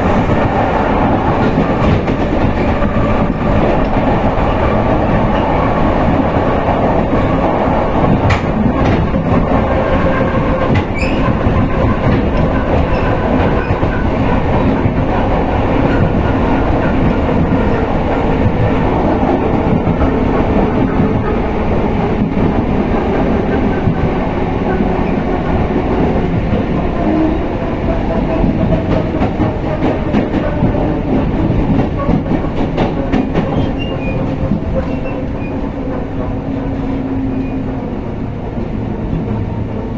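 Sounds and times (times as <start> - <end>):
clickety-clack of rail joints: 0.0 - 39.9
train wheels rumbling on track: 0.0 - 39.9.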